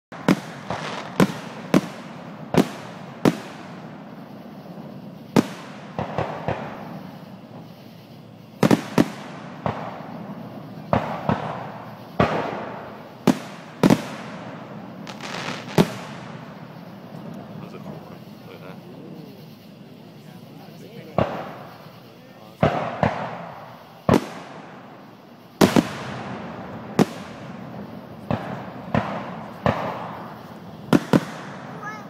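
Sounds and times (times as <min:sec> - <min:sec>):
fireworks booming: 0:00.1 - 0:32.0
fireworks hiss: 0:00.1 - 0:32.0.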